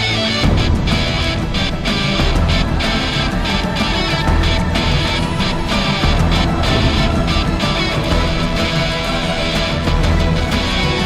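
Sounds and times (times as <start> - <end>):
distorted electric guitar: 0.0 - 11.0
fast steady beat: 0.0 - 11.0
loud rock music: 0.0 - 11.0.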